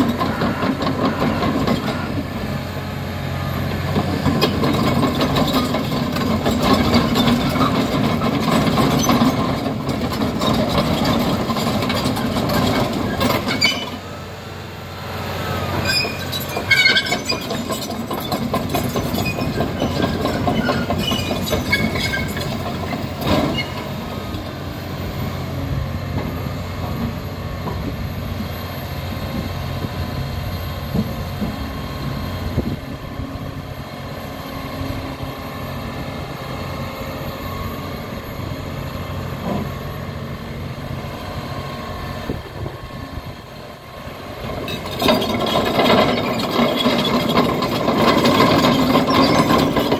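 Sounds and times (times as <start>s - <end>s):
steel tracks clanking and squealing: 0.0s - 14.4s, 15.4s - 49.9s
diesel engine running: 0.0s - 49.9s.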